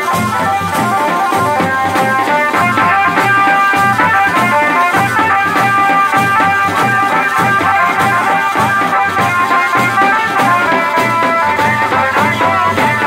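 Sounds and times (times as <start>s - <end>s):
folk dance music: 0.0s - 13.0s
steady drum beat: 0.0s - 13.0s.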